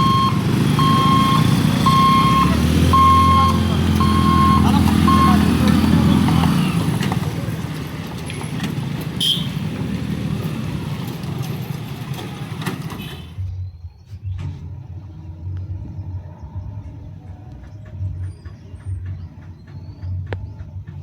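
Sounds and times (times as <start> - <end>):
train rumbling and clattering: 0.0 - 21.0.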